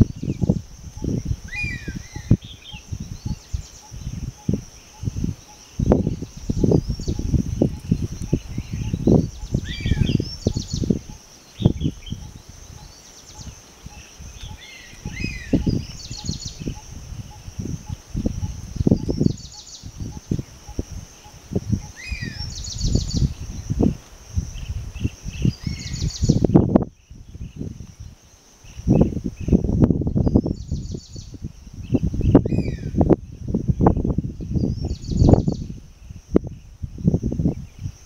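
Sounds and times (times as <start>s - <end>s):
bird chirping: 0.0s - 33.0s, 33.8s - 36.7s
high-pitched insect drone: 0.0s - 38.0s
wind buffeting microphone: 0.0s - 38.0s.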